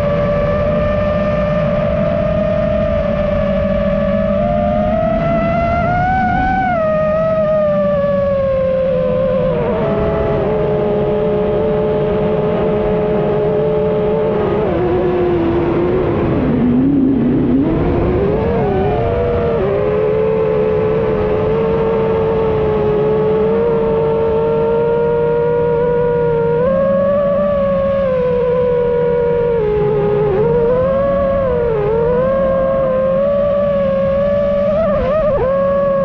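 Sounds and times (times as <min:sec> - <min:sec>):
steady rushing noise: 0:00.0 - 0:36.0
quadcopter propellers whining: 0:02.0 - 0:36.0.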